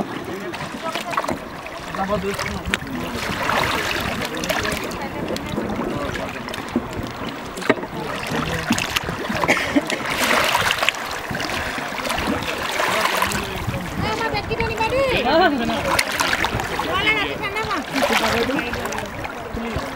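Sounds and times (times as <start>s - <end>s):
paddle strokes in water: 0.0s - 19.9s
river water rushing and splashing: 0.0s - 19.9s.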